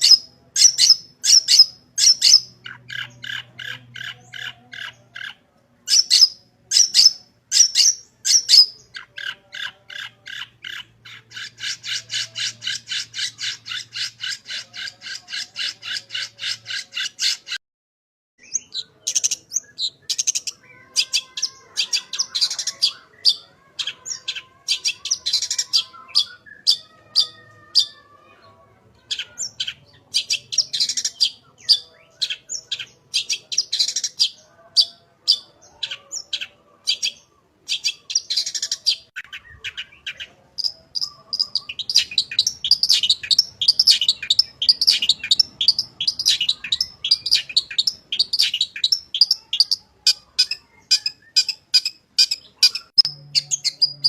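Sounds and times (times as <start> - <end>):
shrike chattering song: 0.0 - 17.6, 18.4 - 28.0, 29.0 - 54.0.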